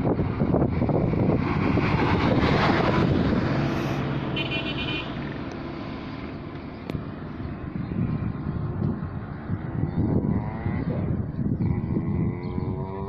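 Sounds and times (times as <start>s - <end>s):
vehicle passing close: 0.0s - 13.0s.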